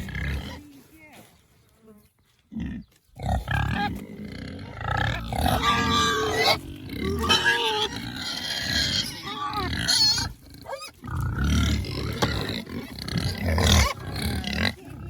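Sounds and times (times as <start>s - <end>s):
pigs grunting and squealing: 0.0s - 0.8s, 2.5s - 15.0s.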